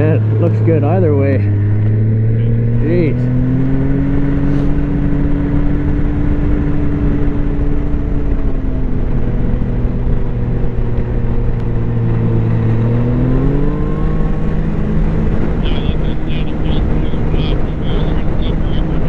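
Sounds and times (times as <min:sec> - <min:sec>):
noisy rush: 0:00.0 - 0:19.0
snowmobile engine running: 0:00.0 - 0:19.0.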